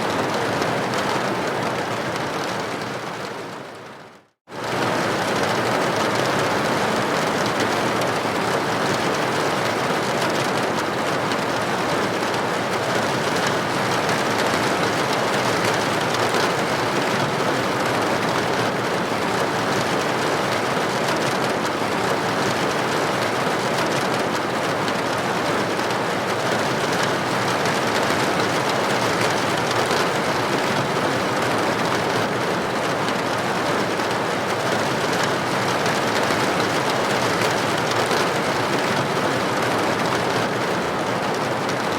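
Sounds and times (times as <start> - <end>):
steady rain: 0.0 - 41.9
raindrops hitting a window: 0.1 - 41.9.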